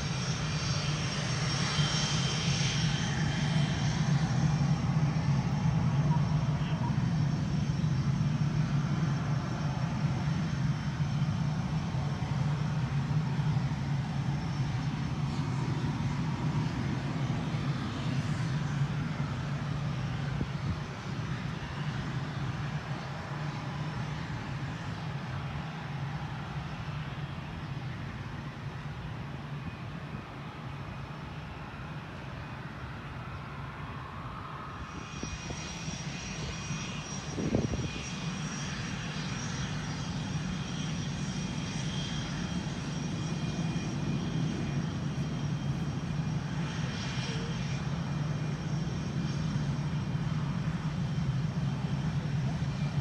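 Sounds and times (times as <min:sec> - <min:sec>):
jet engine whine: 0:00.0 - 0:53.0
jet engines rumbling: 0:00.0 - 0:53.0.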